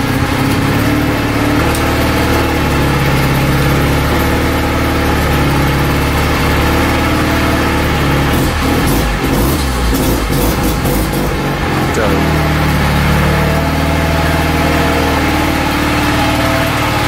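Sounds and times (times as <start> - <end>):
rotary engine idling: 0.0 - 17.0.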